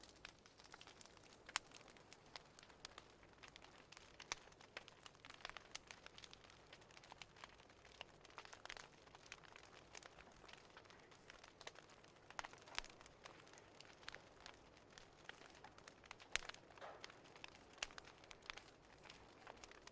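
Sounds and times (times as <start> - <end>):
wood fire crackling: 0.0 - 19.9.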